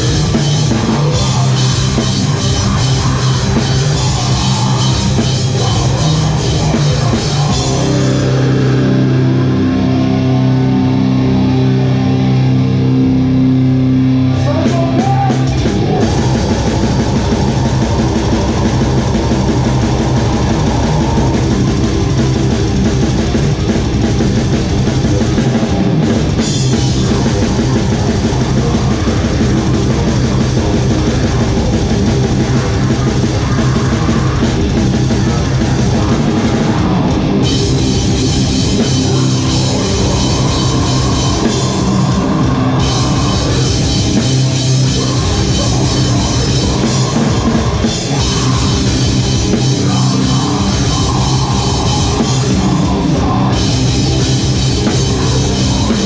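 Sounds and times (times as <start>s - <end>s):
band playing heavy rock: 0.0s - 56.0s
fast dense drumming: 0.0s - 56.0s.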